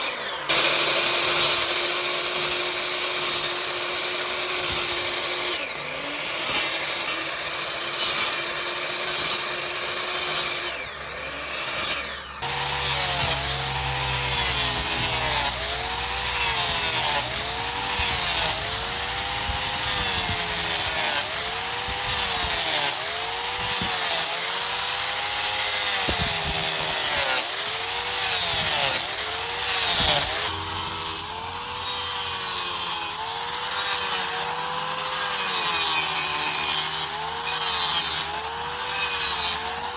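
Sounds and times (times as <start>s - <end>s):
angle grinder cutting wood: 0.0s - 39.9s.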